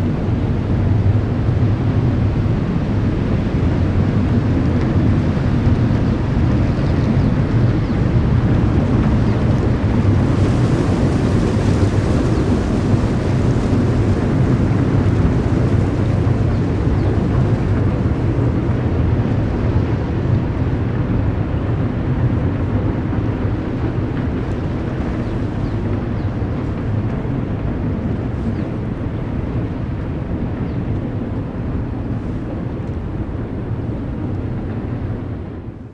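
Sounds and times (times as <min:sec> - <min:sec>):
ship engine rumble: 0:00.0 - 0:35.9.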